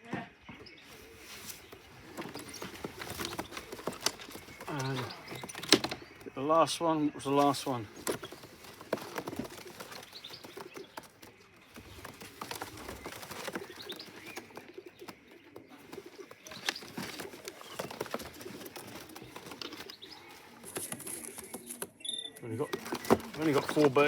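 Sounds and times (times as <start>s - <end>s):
pigeons cooing softly: 0.2s - 24.0s
sharp clicks and rustles: 0.9s - 6.4s, 7.3s - 22.0s, 22.6s - 24.0s.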